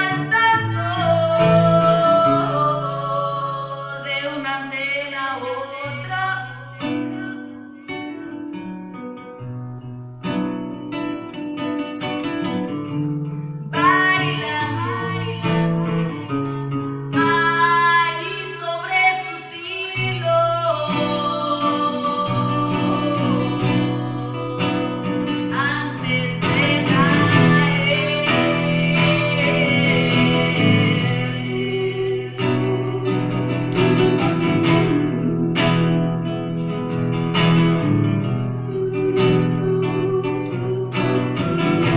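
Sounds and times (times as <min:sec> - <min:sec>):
woman singing: 0:00.0 - 0:08.0, 0:13.7 - 0:41.9
acoustic guitar plucked and strummed: 0:00.0 - 0:41.9.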